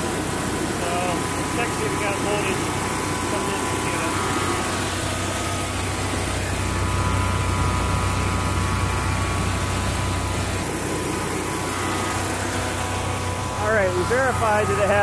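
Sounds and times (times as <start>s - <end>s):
faint steady whine: 0.0s - 15.0s
generator engine humming: 0.0s - 15.0s.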